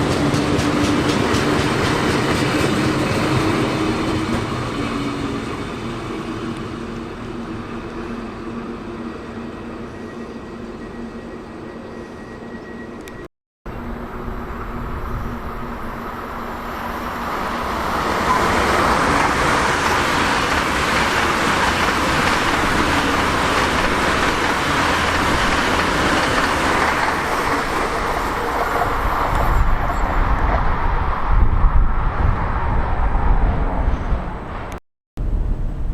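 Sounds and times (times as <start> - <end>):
train passing: 0.0 - 35.9.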